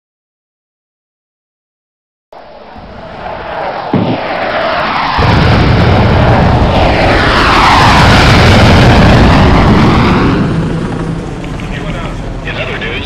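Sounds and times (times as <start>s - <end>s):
heavy low rumble: 2.4s - 13.0s
jet aircraft flying past: 2.4s - 13.0s.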